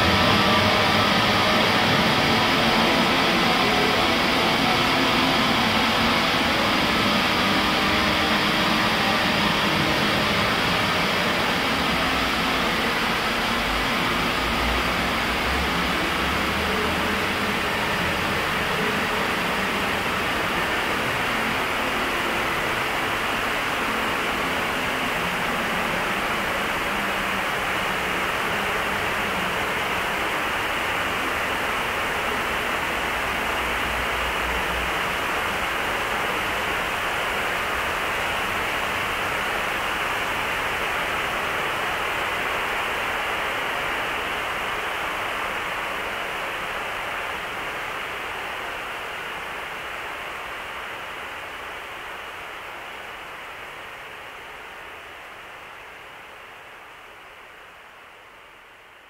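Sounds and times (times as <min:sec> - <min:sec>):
dense static hiss: 0:00.0 - 0:59.0.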